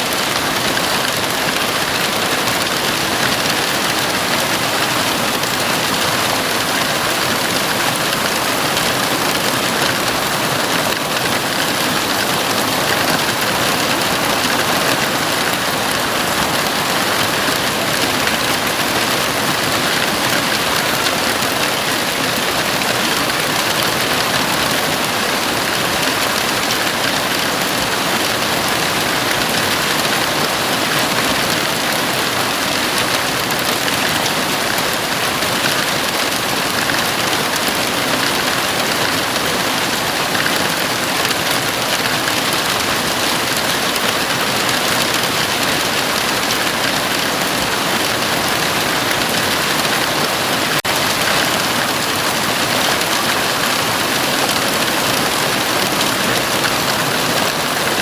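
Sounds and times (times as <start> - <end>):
heavy rain drumming on roof: 0.0 - 58.0.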